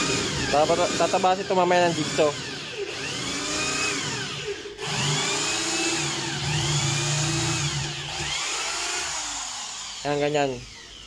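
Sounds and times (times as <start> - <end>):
electric drill boring wood: 0.0 - 11.0.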